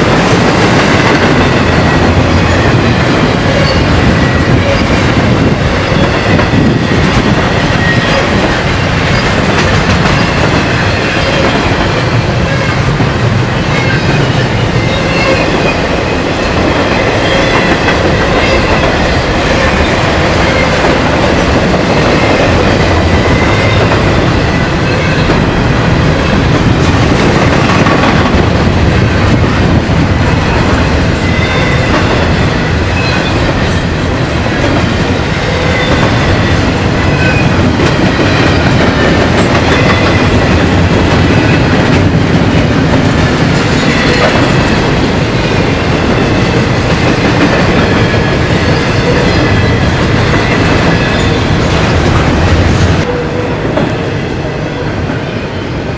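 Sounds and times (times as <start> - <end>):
train wheels clattering over rails: 0.0 - 53.1.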